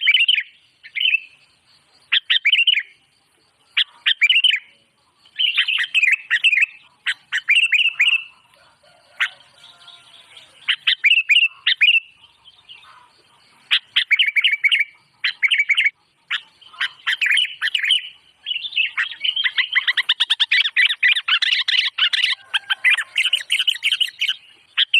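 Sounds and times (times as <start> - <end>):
songbird chirping: 0.0 - 24.9.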